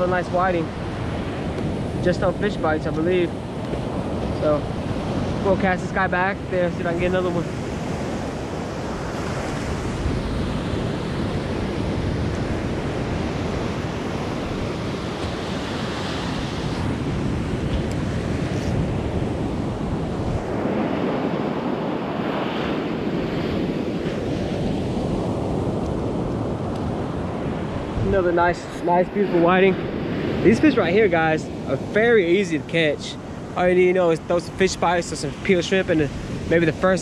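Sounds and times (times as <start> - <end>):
surf breaking on a beach: 0.0 - 37.0
wind buffeting the microphone: 0.0 - 37.0.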